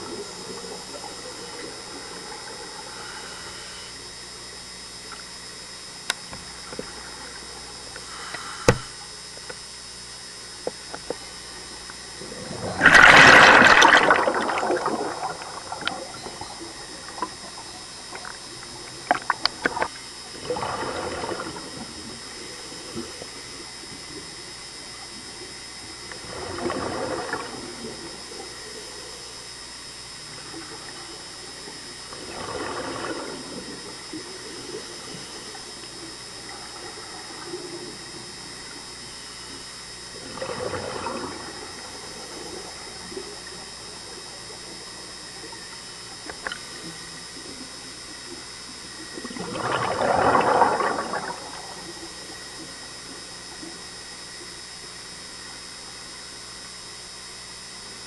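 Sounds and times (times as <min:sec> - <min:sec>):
underwater hiss: 0:00.0 - 0:04.4, 0:06.4 - 0:09.2, 0:12.1 - 0:56.7.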